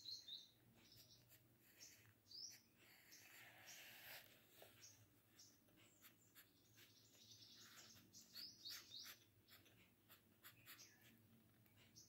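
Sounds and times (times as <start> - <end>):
pencil scratching on paper: 0.8 - 12.0.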